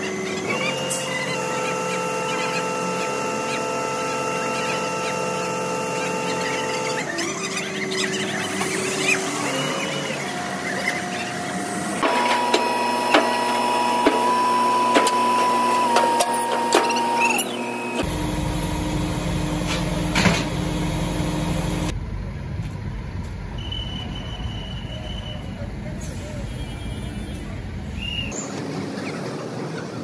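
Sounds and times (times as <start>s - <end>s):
mechanical whine: 0.0s - 25.6s
diesel engine rumble: 0.0s - 30.0s.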